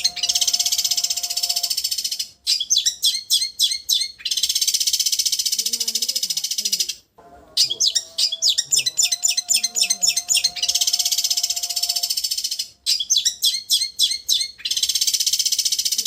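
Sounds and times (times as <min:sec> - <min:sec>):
bird chattering and trilling: 0:00.0 - 0:15.8.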